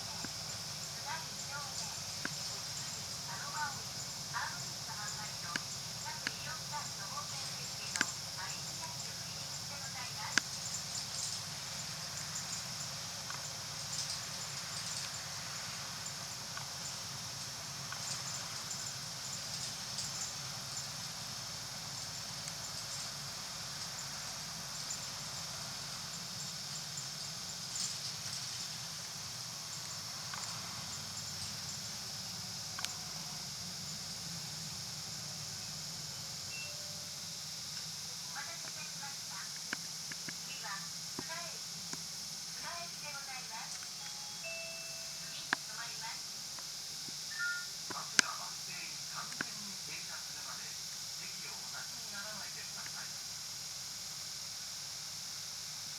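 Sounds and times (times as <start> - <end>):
constant high hiss: 0.0 - 55.9.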